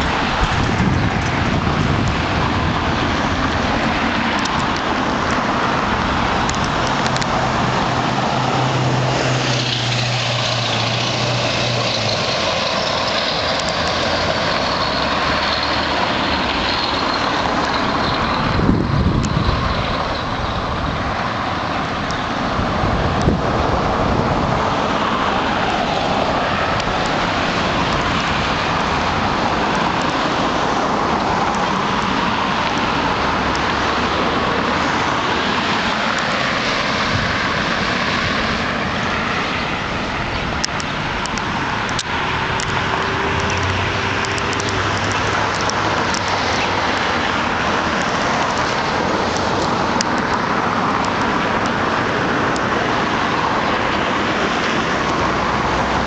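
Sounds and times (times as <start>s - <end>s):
road traffic hiss: 0.0s - 56.0s.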